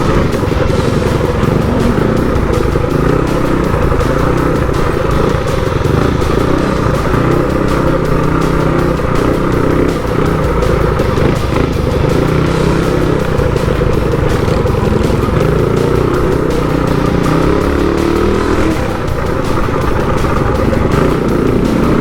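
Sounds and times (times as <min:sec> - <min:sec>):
motorcycle engines running: 0:00.0 - 0:22.0
music playing: 0:00.0 - 0:22.0.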